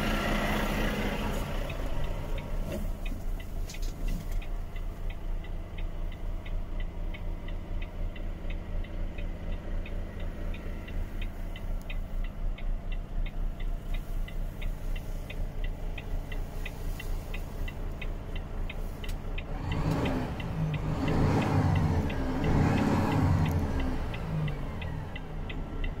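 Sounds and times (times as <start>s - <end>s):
diesel truck idling: 0.0s - 26.0s.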